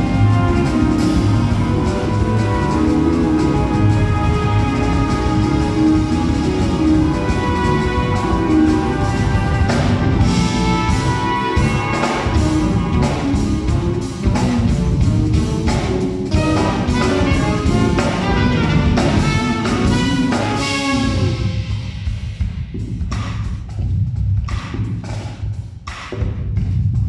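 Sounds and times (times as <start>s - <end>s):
trumpet lines: 0.0s - 21.8s
keyboards: 0.0s - 22.0s
busy drum kit: 0.0s - 27.0s
electric bass: 0.0s - 27.0s.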